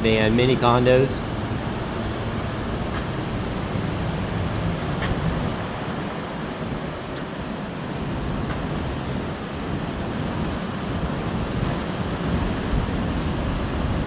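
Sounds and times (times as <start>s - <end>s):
surf: 0.0s - 14.0s
wind buffeting microphone: 0.0s - 14.0s.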